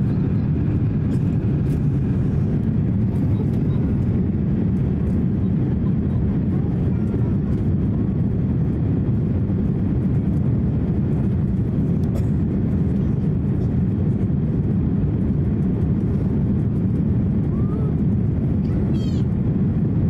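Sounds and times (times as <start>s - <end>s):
airflow around fuselage: 0.0s - 20.0s
airplane cabin engine roar: 0.0s - 20.0s.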